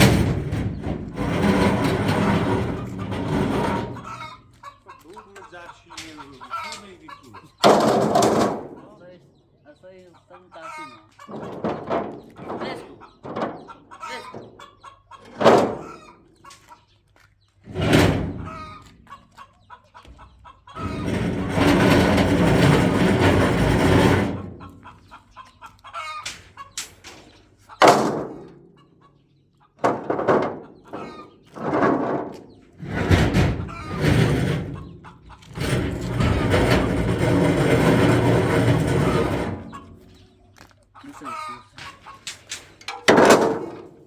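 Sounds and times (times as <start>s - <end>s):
chickens clucking: 0.0s - 1.2s, 1.8s - 44.0s.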